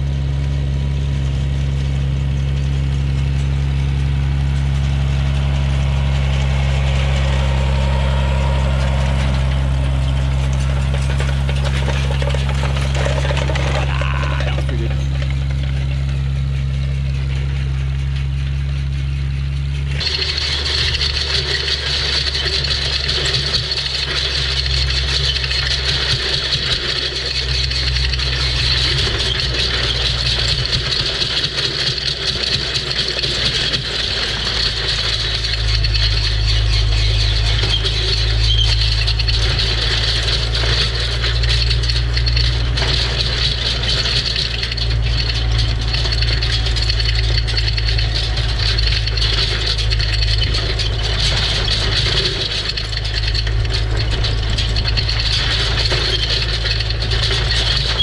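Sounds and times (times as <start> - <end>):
loud rattling: 0.0 - 58.0
tractor engine running: 0.0 - 58.0.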